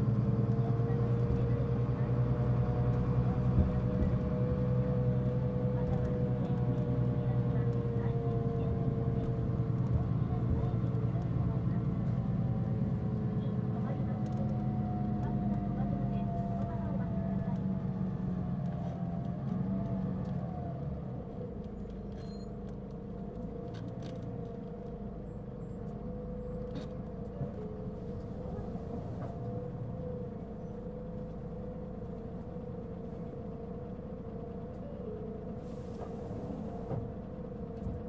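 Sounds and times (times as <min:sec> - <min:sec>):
bus diesel engine with whine: 0:00.0 - 0:38.0.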